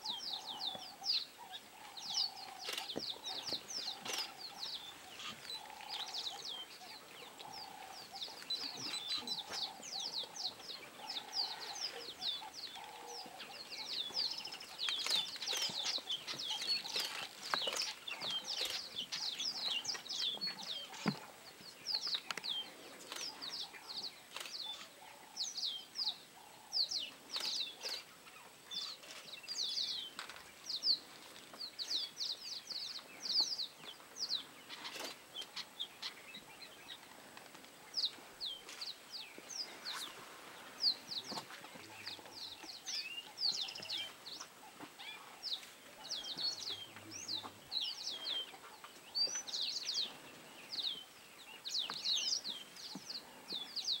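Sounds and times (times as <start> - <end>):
small birds chirping busily: 0.0 - 54.0.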